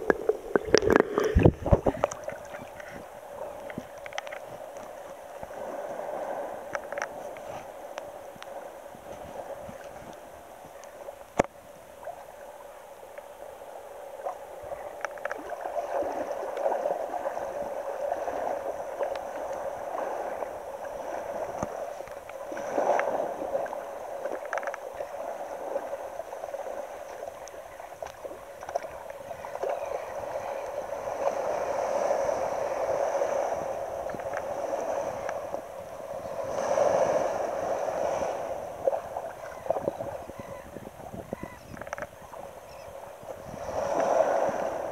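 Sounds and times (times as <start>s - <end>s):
seawater lapping at beach: 0.0s - 44.9s.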